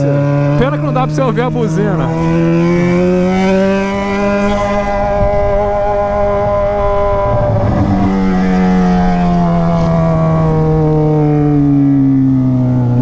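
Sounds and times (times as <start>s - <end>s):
motorcycle engine revs falling: 0.0s - 13.0s.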